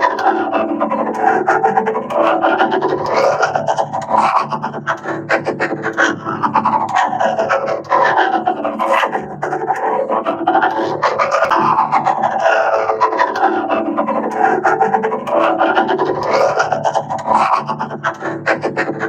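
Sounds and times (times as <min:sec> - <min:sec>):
droning chord: 0:00.0 - 0:19.0
rapid scratchy rasping clicks: 0:00.0 - 0:19.0.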